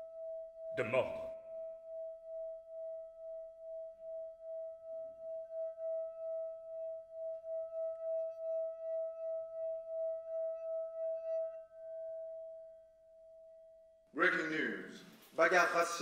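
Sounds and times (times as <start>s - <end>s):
pulsing ringing tone: 0.0s - 14.1s
faint higher ringing tones: 0.0s - 14.7s.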